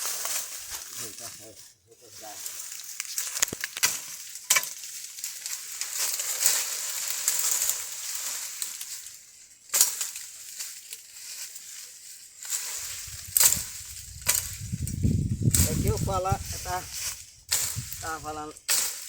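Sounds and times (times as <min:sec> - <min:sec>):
dry branches crunching: 0:00.0 - 0:19.0.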